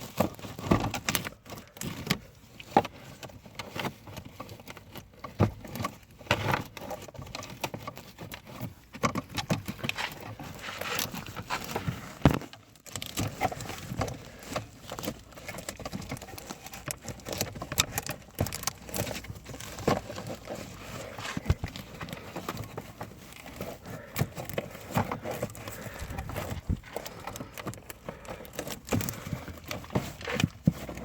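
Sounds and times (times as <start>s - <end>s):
plastic parts clicking and rustling: 0.0s - 31.0s.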